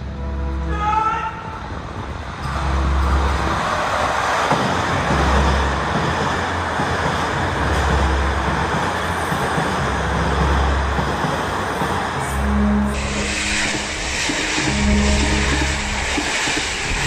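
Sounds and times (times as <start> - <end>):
train wheels rushing on rails: 1.4 - 17.0.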